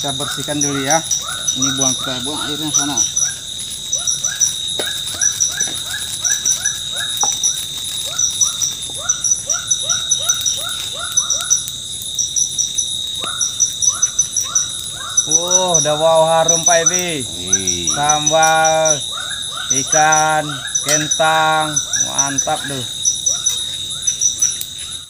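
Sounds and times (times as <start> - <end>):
animal calling rapidly: 0.0 - 11.6, 13.2 - 24.6
high insect buzz: 0.0 - 25.0.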